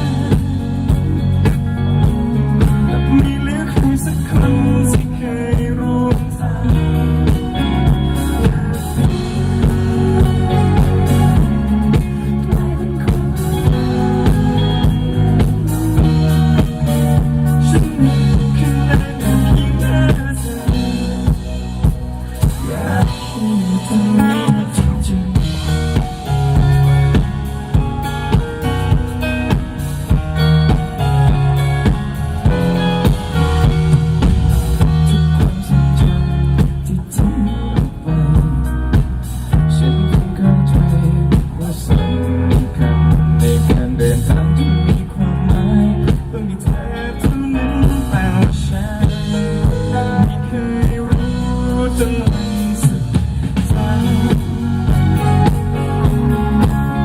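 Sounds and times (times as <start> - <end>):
drum kit beat: 0.0 - 57.0
electric guitar: 0.0 - 57.0
live pop-rock band playing: 0.0 - 57.0.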